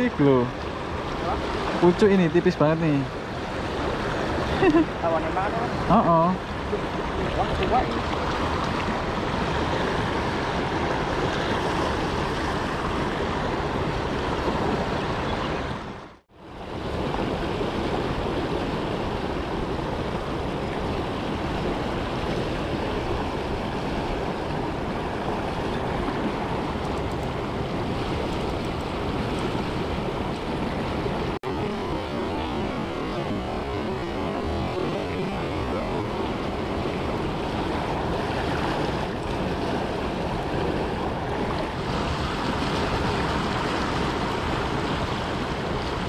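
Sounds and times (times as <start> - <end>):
river water rushing: 0.0 - 46.0.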